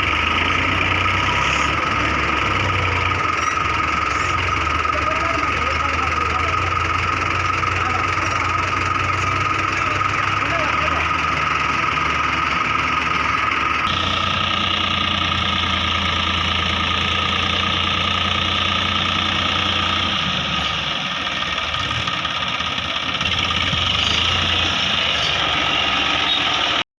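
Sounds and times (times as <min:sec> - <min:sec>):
diesel tractor engine running: 0:00.0 - 0:26.8.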